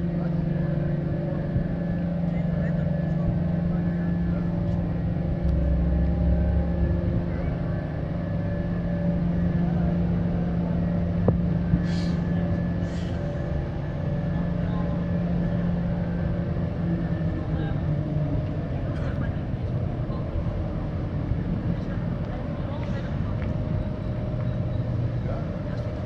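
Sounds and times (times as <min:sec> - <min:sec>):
ship diesel engine drone: 0:00.0 - 0:26.0.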